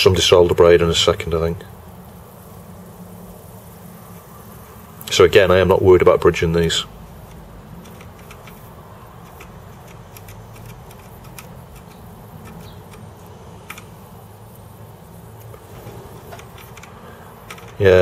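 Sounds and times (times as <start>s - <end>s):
flux sizzling crackles: 0.0s - 18.0s
steady low hum: 0.0s - 18.0s.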